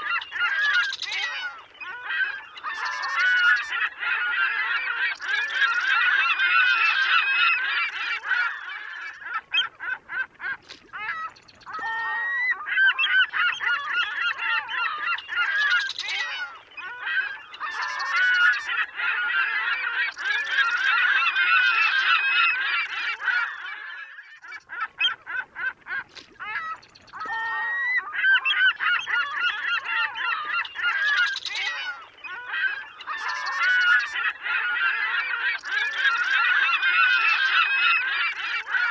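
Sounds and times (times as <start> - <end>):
flock of birds calling: 0.0 - 38.9.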